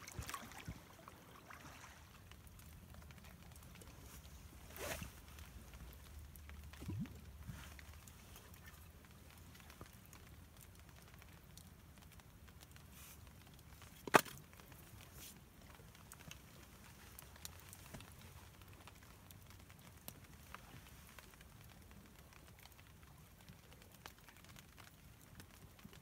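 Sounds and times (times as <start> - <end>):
campfire crackling: 0.1 - 26.0.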